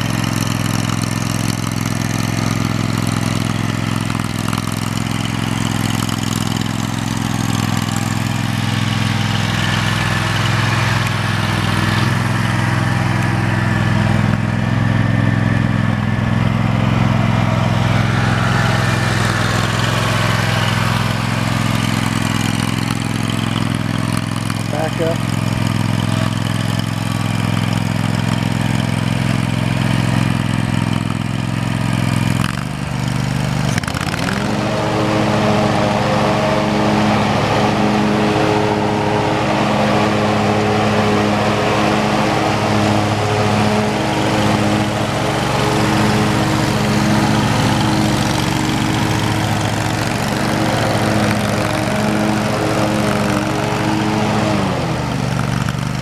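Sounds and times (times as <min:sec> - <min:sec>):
mower engine running: 0:00.0 - 0:56.0.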